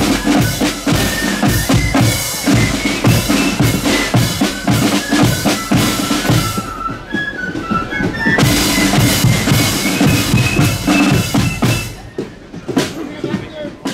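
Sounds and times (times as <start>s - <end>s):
high melody line: 0.0s - 12.5s
snare drums: 0.0s - 13.9s.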